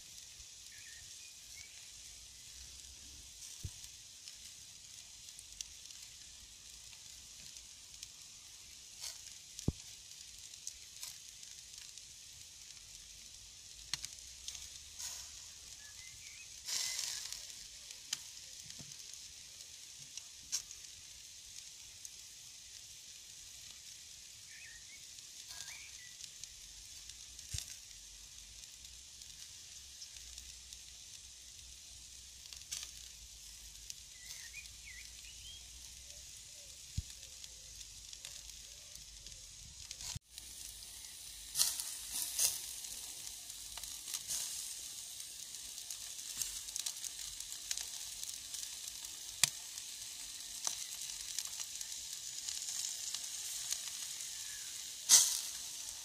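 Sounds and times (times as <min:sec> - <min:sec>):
meat sizzling on a grill: 0:00.0 - 0:56.0
pops and crackles: 0:02.5 - 0:21.0, 0:24.4 - 0:56.0.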